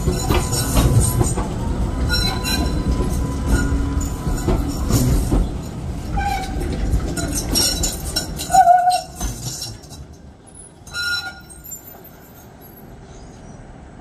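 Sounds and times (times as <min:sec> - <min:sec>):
wheel squeal: 0:00.0 - 0:13.6
tram wheels rumbling and clicking: 0:00.0 - 0:14.0.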